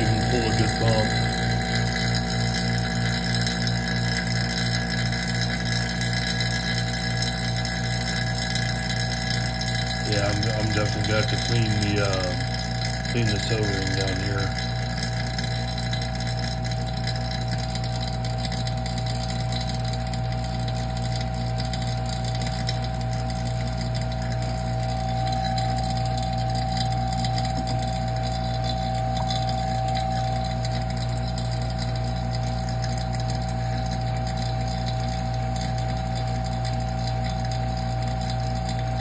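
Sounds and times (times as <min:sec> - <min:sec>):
vacuum pump humming and whining: 0:00.0 - 0:39.0.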